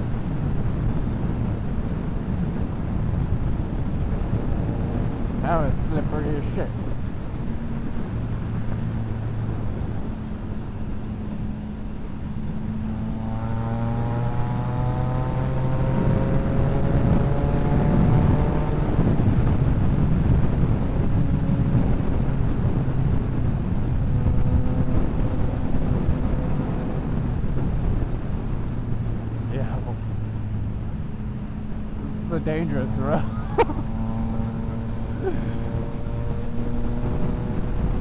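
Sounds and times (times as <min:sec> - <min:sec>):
motorcycle engine at speed: 0:00.0 - 0:38.0
wind rush: 0:00.0 - 0:38.0.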